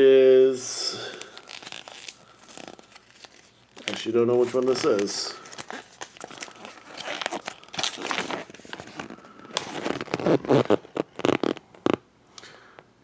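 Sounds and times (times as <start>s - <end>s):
plastic packaging crinkling: 1.1s - 12.0s.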